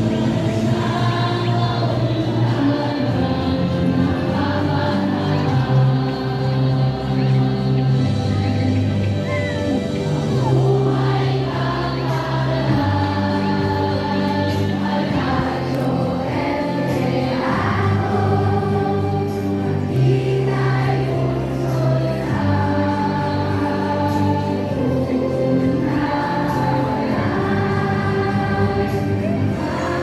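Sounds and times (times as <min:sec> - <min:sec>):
choir singing with accompaniment: 0:00.0 - 0:30.0.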